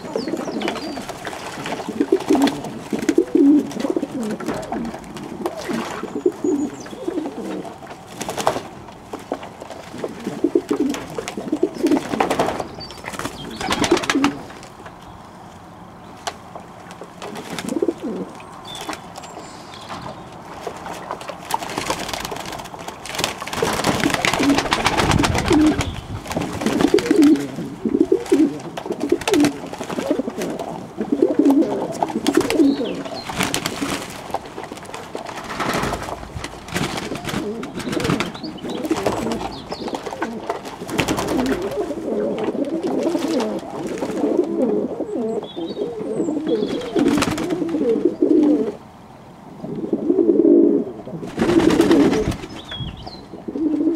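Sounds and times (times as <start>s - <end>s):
pigeons cooing: 0.0s - 8.6s, 9.8s - 14.7s, 17.0s - 22.6s, 23.3s - 48.9s, 49.5s - 53.9s.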